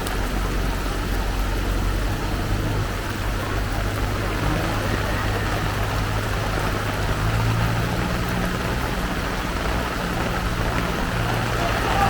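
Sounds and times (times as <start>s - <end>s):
heavy rain pouring: 0.0s - 12.0s
vehicle engine hum: 0.0s - 12.0s.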